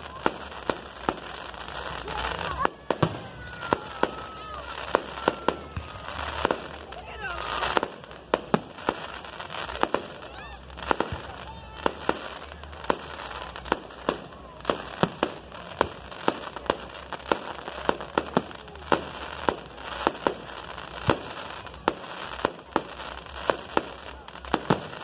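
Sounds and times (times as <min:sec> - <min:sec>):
fireworks bangs: 0:00.0 - 0:25.0
fireworks crackle: 0:00.0 - 0:25.0.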